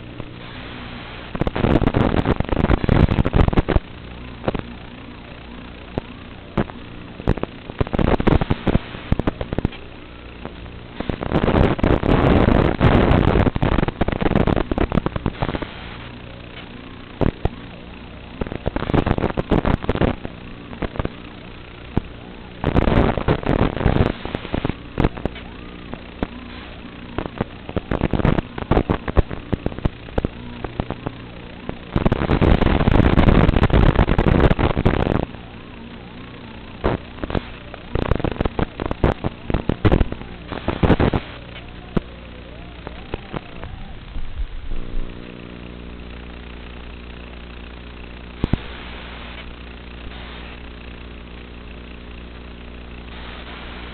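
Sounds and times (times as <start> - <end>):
loud crackling bursts: 0.0 - 53.9
steady low hum: 0.0 - 53.9.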